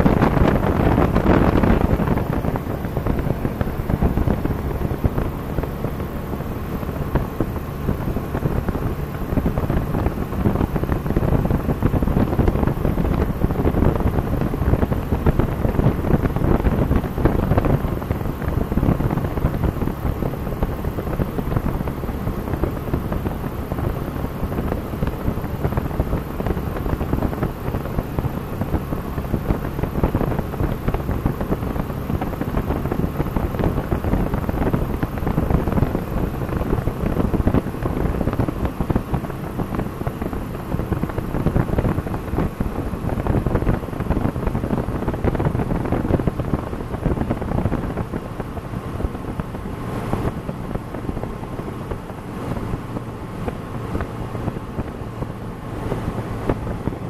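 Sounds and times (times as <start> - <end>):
aircraft engine and propeller: 0.0 - 57.0
wind noise from airflow: 0.0 - 57.0.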